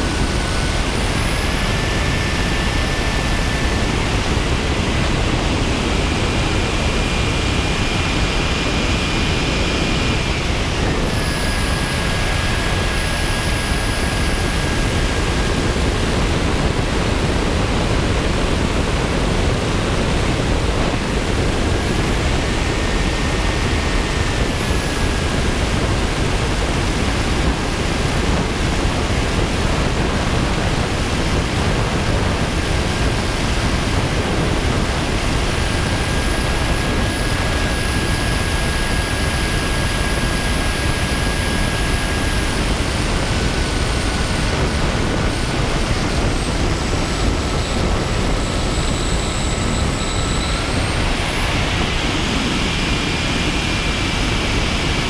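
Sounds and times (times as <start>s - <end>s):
high jet engine whine: 0.0s - 55.0s
wind rushing over microphone: 0.0s - 55.0s.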